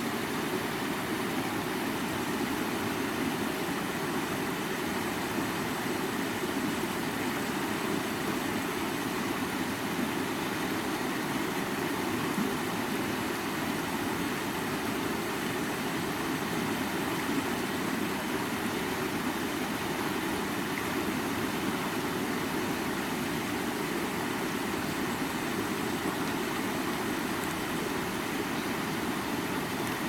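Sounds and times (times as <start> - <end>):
stream running over rocks: 0.0 - 30.0.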